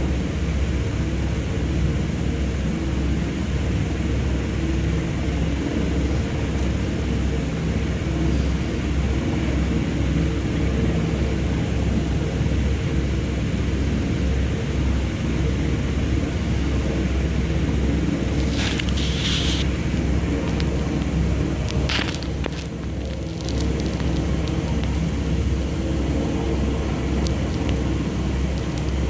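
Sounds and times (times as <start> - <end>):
faint steady hum: 0.0 - 29.0
low engine rumble: 0.0 - 29.0.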